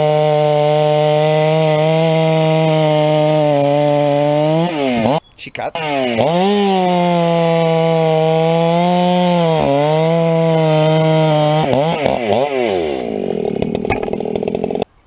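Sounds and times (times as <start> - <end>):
chainsaw cutting wood: 0.0 - 14.9.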